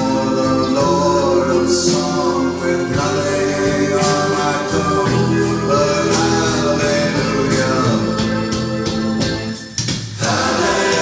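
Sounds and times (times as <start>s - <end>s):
instrumental music through hi-fi: 0.0s - 11.0s.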